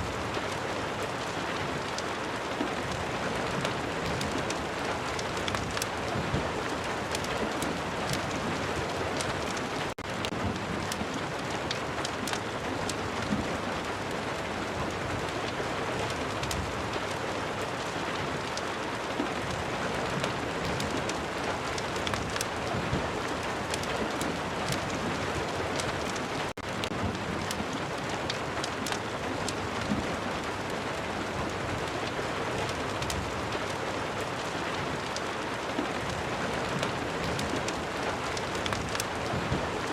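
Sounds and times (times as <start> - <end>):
fireplace crackling: 0.0 - 14.4, 15.3 - 39.9
steady rain: 0.0 - 39.9.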